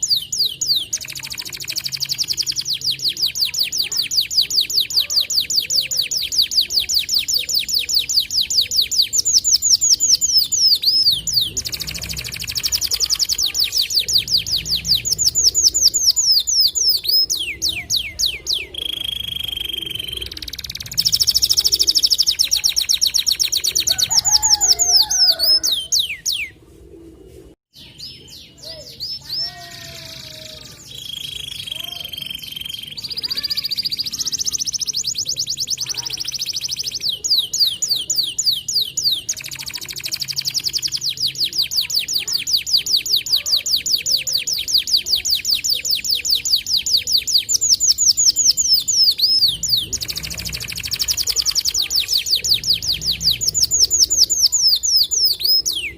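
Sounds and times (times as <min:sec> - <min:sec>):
canary singing trills: 0:00.0 - 0:26.6, 0:27.7 - 0:55.9.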